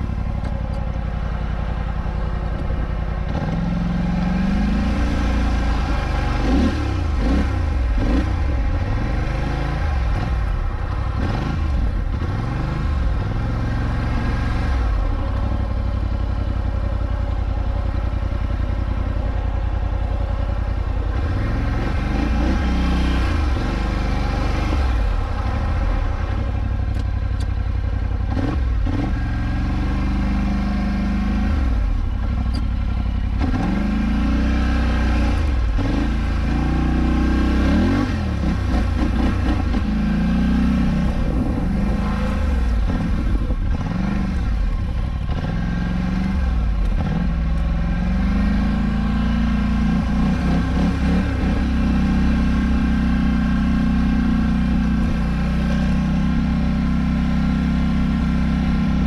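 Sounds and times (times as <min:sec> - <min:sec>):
quad bike engine revving: 0:01.9 - 0:15.6, 0:21.1 - 0:27.0, 0:28.2 - 0:32.7, 0:33.3 - 0:59.0.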